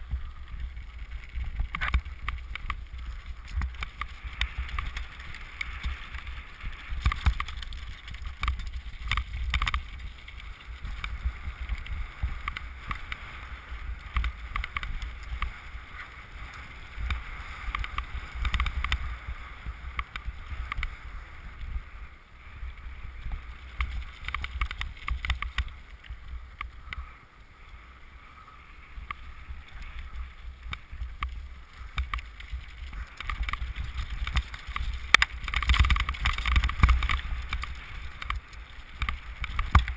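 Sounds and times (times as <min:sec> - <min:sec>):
bike and mount rattling: 0:00.0 - 0:21.8, 0:22.6 - 0:27.1, 0:29.0 - 0:39.9
bike tyres rumbling on gravel: 0:00.0 - 0:39.9
wind on microphone: 0:00.0 - 0:39.9.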